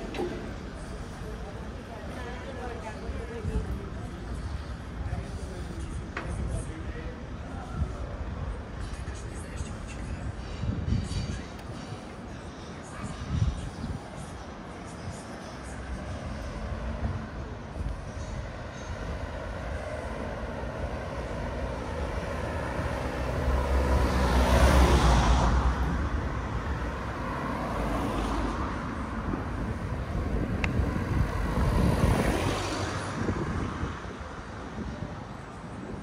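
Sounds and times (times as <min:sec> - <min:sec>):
steady traffic rumble: 0:00.0 - 0:36.0
vehicles passing close by: 0:00.0 - 0:36.0.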